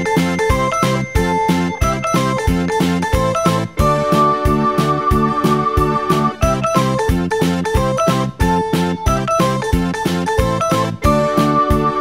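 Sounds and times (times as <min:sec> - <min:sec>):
melody over steady beat: 0:00.0 - 0:12.0.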